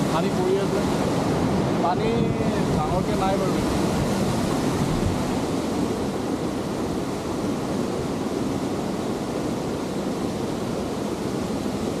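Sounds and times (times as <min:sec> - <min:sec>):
waterfall rushing: 0:00.0 - 0:12.0
wind on microphone: 0:00.0 - 0:12.0.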